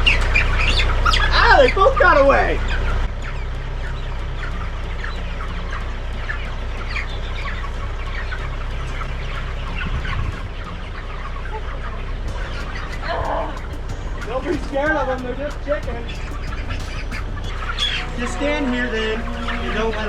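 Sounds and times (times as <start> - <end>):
chickens clucking: 0.0 - 20.0
steady low rumble: 0.0 - 20.0.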